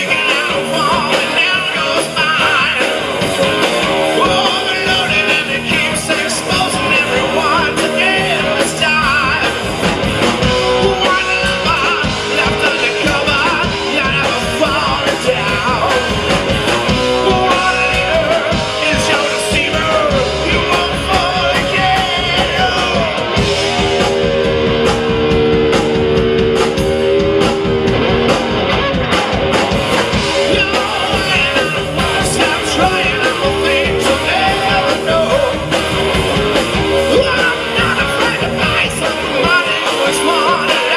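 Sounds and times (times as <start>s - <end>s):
person singing: 0.0s - 9.6s, 10.2s - 16.3s, 16.9s - 27.8s, 30.1s - 35.8s, 36.9s - 40.9s
live rock band playing: 0.0s - 40.9s.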